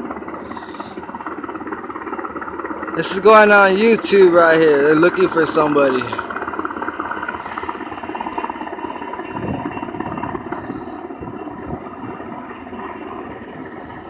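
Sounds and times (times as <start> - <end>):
helicopter engine noise: 0.0 - 14.0
helicopter rotor chop: 0.0 - 14.0.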